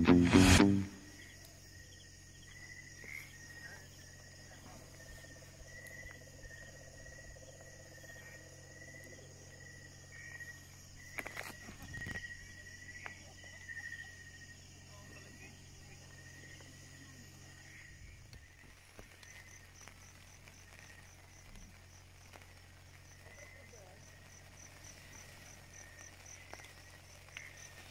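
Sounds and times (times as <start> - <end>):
faint high insect hiss: 0.0 - 27.9
crickets trilling: 1.1 - 27.9.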